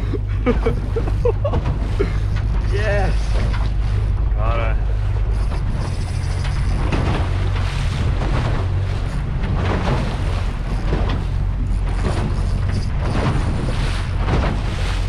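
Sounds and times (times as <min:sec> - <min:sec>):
water splashing against boat hull: 0:00.0 - 0:15.0
wind on microphone: 0:00.0 - 0:15.0.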